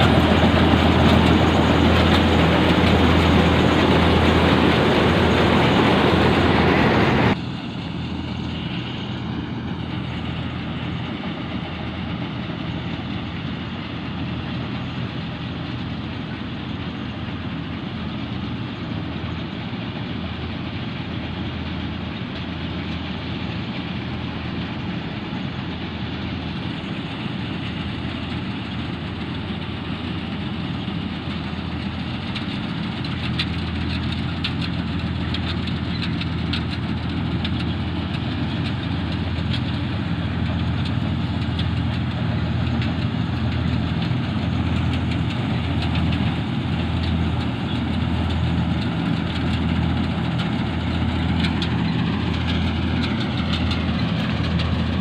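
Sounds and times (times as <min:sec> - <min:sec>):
combine harvester engine and threshing: 0:00.0 - 0:55.0.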